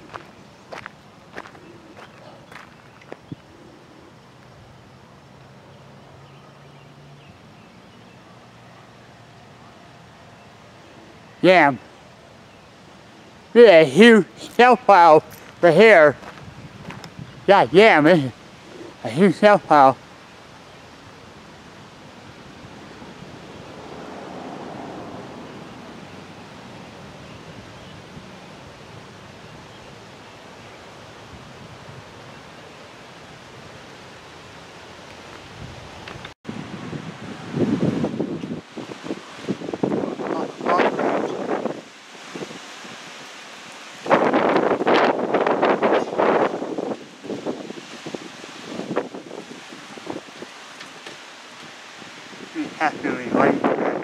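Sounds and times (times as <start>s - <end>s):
wind blowing: 0.0s - 6.4s, 7.2s - 54.0s
outdoor background noise: 0.0s - 54.0s.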